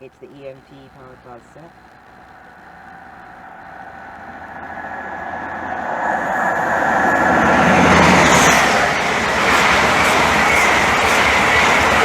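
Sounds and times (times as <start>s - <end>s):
diesel train passing at speed: 2.0s - 12.0s.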